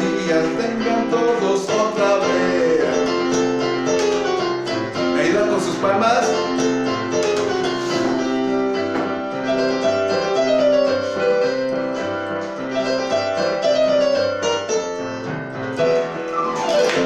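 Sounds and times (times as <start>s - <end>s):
keyboard playing children's song: 0.0s - 17.0s.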